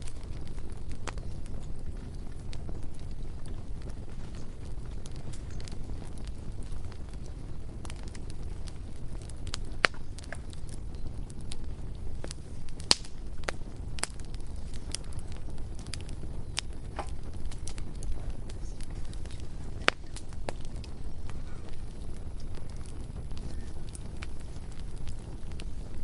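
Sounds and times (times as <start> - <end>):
bonfire crackling and popping: 0.0 - 26.0
steady low rumble: 0.0 - 26.0.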